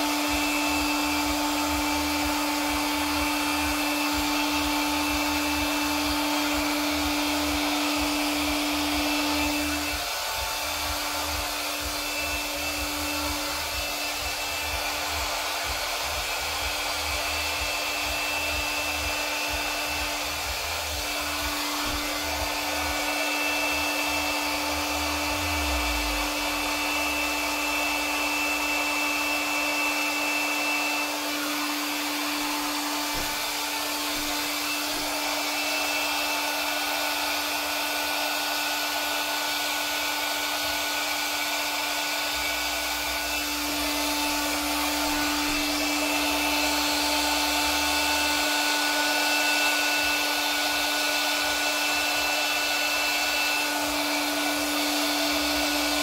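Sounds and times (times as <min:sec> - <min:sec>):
electric blower running: 0:00.0 - 0:56.0.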